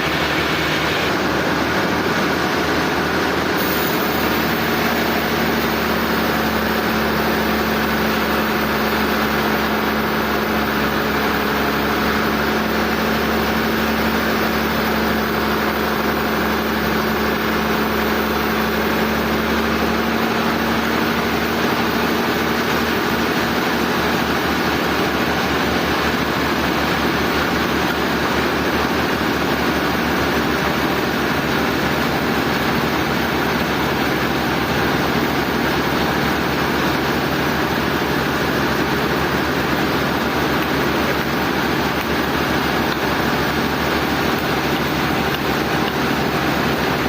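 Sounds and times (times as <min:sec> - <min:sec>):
sawmill machinery droning: 0:00.0 - 0:47.0.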